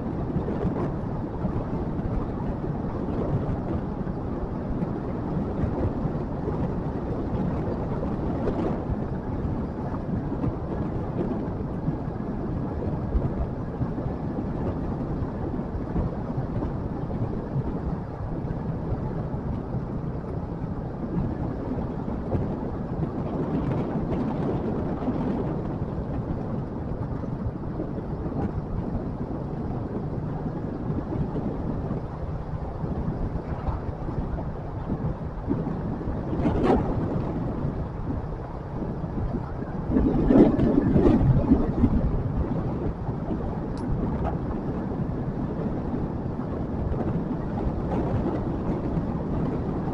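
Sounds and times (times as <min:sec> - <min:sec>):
wind rumbling on microphone: 0:00.0 - 0:49.9.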